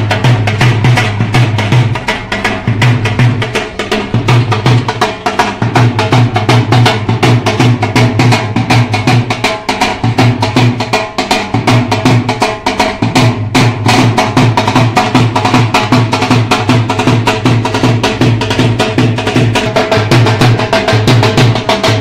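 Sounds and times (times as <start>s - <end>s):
dhol drum beating fast rhythm: 0.0s - 22.0s.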